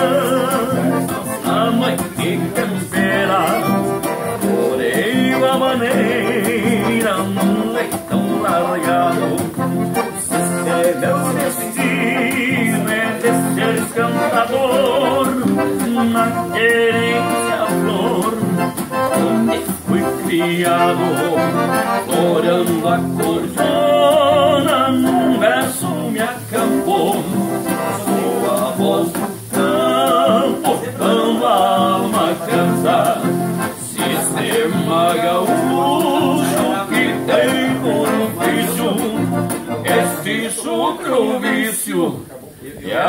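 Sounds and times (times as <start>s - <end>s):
piano accordion melody: 0.0s - 25.8s, 26.8s - 40.6s
strummed acoustic guitar: 0.0s - 43.0s.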